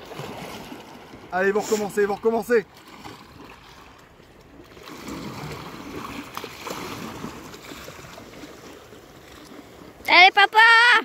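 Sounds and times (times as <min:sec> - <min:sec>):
light water splashes: 0:00.0 - 0:11.0
seawater sloshing and lapping: 0:00.0 - 0:11.0.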